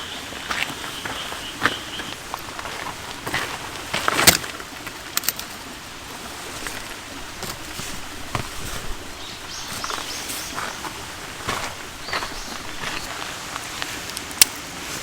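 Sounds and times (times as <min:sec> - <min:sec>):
camp gear knocks and clicks: 0:01.6 - 0:14.6.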